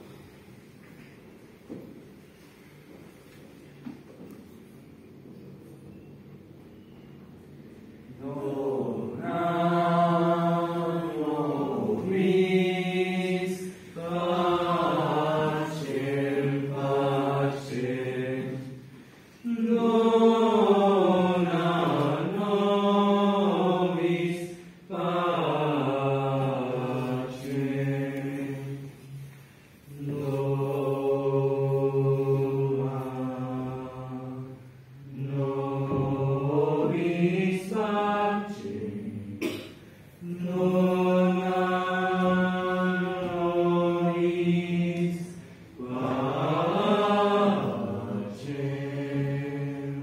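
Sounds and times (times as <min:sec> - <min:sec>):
choir singing unaccompanied: 0:07.9 - 0:50.0.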